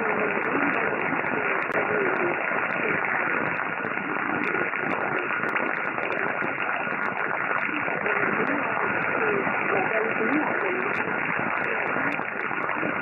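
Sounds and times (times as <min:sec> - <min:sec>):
faint wavering radio audio: 0:00.0 - 0:13.0
radio static hiss: 0:00.0 - 0:13.0.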